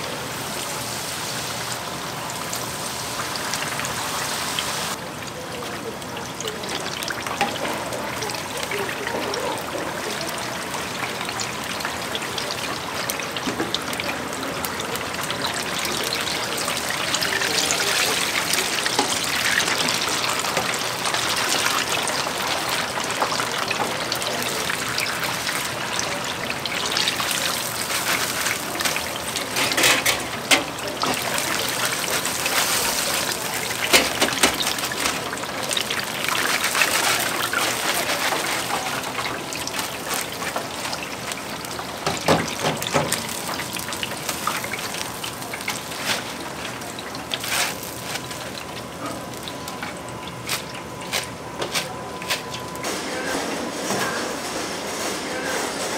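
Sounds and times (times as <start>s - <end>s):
peppers sizzling in hot oil: 0.0s - 53.0s.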